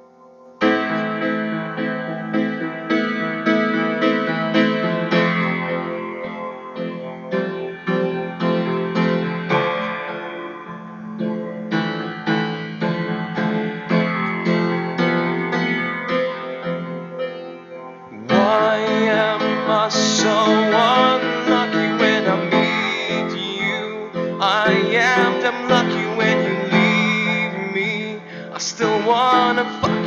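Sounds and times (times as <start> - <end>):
slow sad piano ballad: 0.0 - 30.0.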